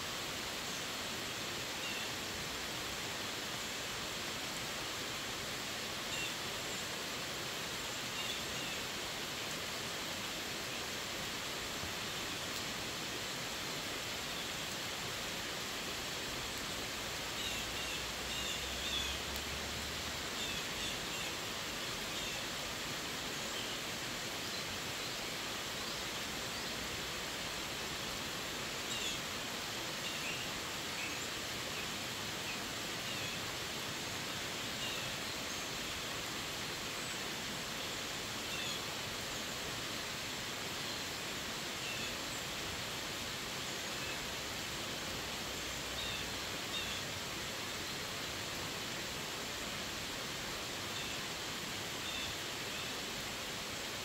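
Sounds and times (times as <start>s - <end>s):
rain falling on leaves and road: 0.0s - 54.0s.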